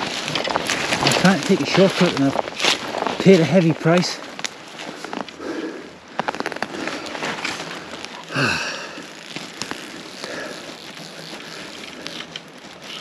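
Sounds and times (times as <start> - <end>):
footsteps through dry grass: 0.0 - 13.0
twigs crackling underfoot: 0.0 - 13.0.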